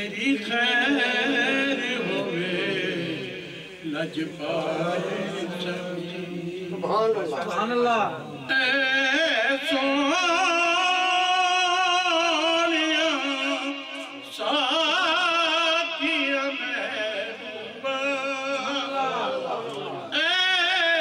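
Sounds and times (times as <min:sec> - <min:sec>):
man singing unaccompanied: 0:00.0 - 0:07.2, 0:08.4 - 0:21.0.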